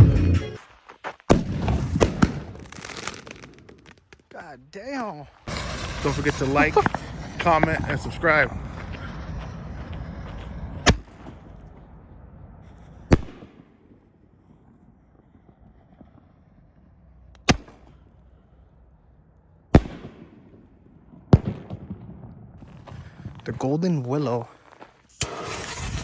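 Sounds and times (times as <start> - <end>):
fireworks bangs: 1.3 - 23.6, 25.2 - 26.0.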